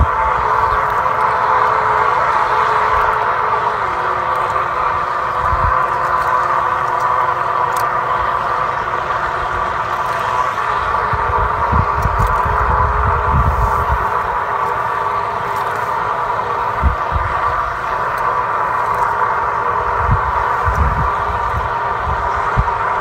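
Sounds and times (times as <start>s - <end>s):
machine hum: 0.0s - 23.0s
wind buffeting microphone: 0.0s - 23.0s.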